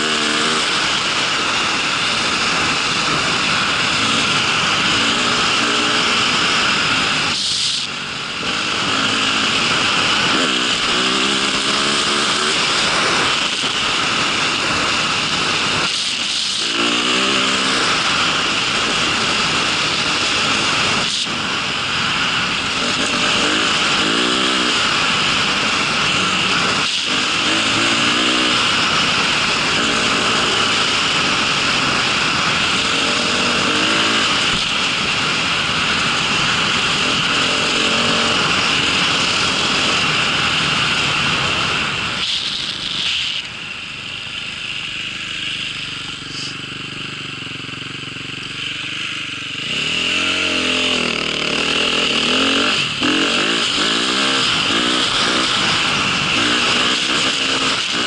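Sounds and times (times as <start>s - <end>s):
vehicle engine running under load: 0.0s - 58.0s.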